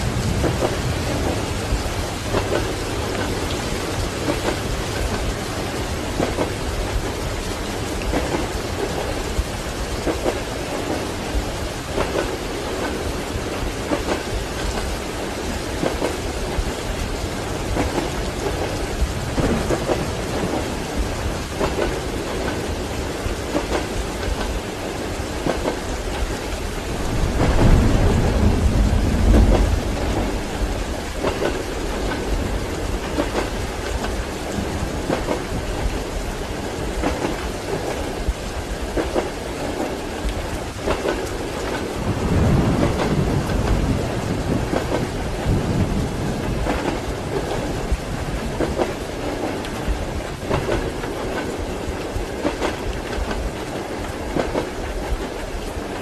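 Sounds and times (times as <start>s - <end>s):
low roll of thunder: 0.0s - 55.9s
steady rain: 0.0s - 56.0s
train wheels clacking: 0.1s - 26.6s, 27.3s - 43.9s, 44.5s - 45.6s, 46.4s - 56.0s.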